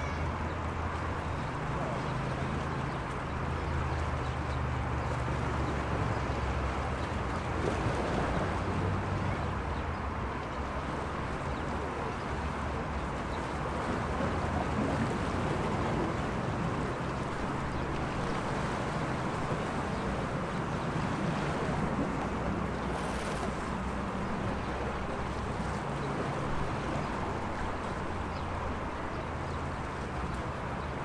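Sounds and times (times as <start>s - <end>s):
sea waves washing against shore: 0.0s - 31.0s.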